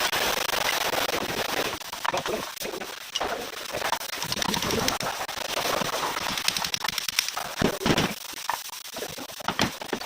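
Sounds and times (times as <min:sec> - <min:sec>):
rapid sharp clicks and knocks: 0:00.0 - 0:10.0.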